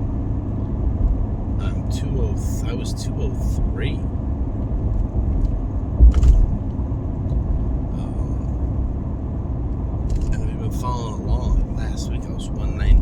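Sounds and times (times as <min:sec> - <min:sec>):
truck road rumble: 0:00.0 - 0:13.0.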